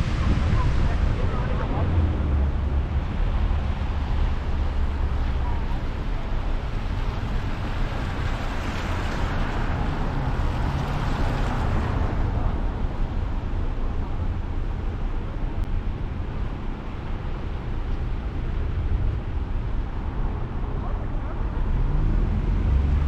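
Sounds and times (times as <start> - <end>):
vehicle interior road rumble: 0.0 - 23.0.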